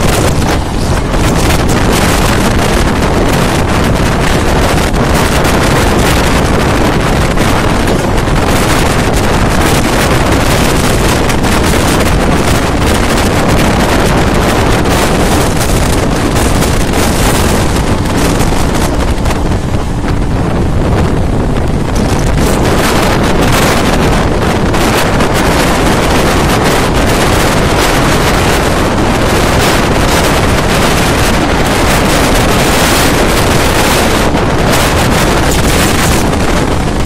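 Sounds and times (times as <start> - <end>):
train running noise: 0.0 - 37.0
wind buffeting microphone: 0.0 - 37.0.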